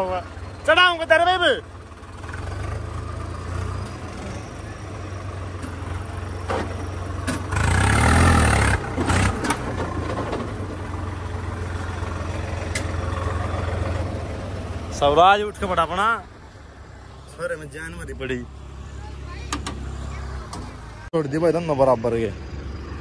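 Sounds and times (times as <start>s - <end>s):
diesel tractor engine under load: 0.0s - 23.0s.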